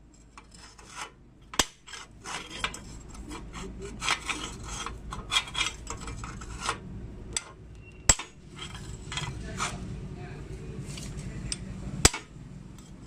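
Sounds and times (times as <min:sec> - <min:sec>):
scraping on metal frame: 0:00.0 - 0:10.0, 0:10.7 - 0:13.0.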